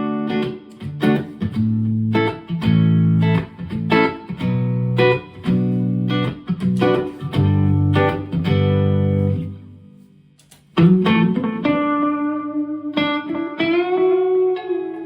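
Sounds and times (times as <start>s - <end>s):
electric guitar with delay and reverb: 0.0s - 9.8s, 10.8s - 15.0s.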